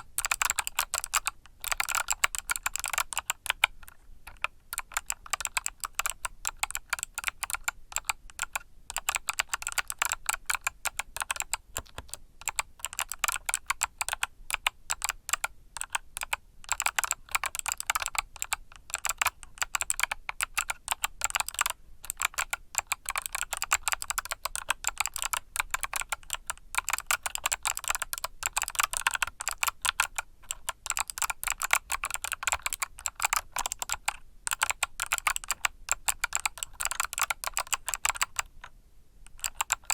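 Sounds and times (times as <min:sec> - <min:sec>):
mechanical keyboard typing: 0:00.0 - 0:38.7, 0:39.3 - 0:39.9.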